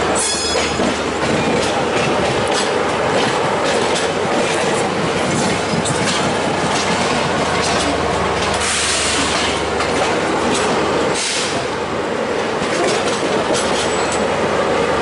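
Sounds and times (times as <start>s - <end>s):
train wheels roaring on rail: 0.0s - 15.0s
clacks over rail joints: 0.1s - 11.8s, 12.4s - 14.4s.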